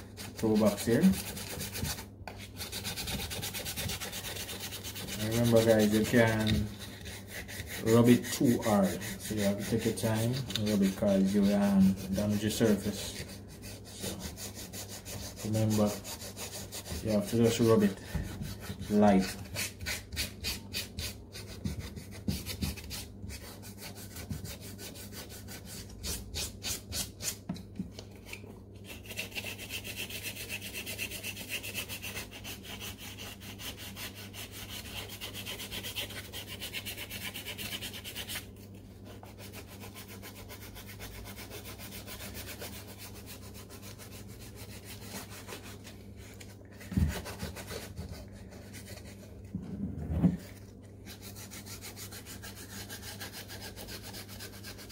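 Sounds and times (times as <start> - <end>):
sandpaper rubbing on leather: 0.0 - 27.4, 28.8 - 49.3, 50.3 - 54.9.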